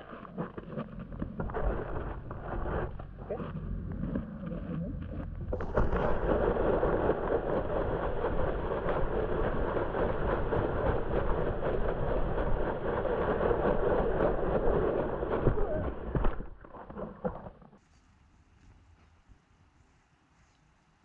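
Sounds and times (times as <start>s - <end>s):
plastic sled sliding over snow: 0.0s - 18.0s.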